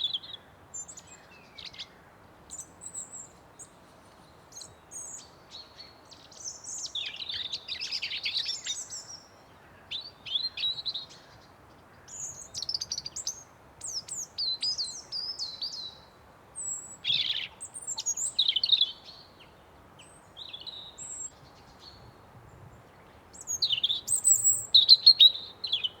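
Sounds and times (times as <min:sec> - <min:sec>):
faint steady background hiss: 0:00.0 - 0:26.0.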